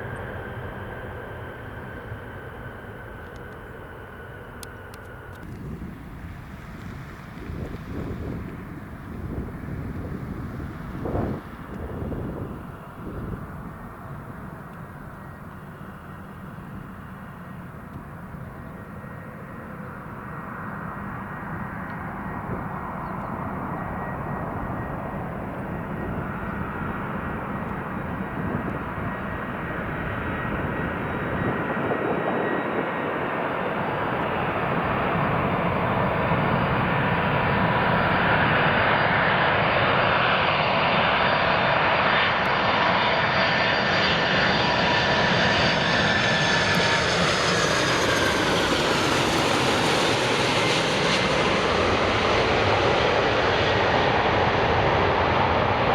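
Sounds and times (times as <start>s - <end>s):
jet engines rumbling and whining: 0.0s - 55.9s.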